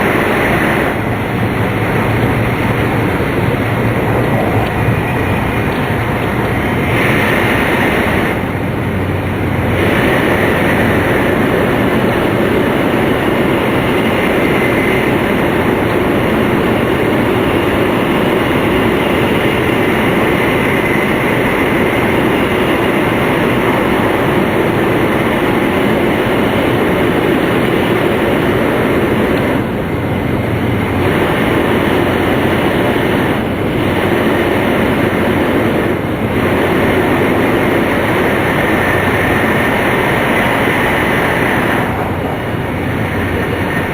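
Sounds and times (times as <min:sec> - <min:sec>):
train interior running noise: 0:00.0 - 0:43.9
wheels rumbling on rails: 0:00.0 - 0:43.9.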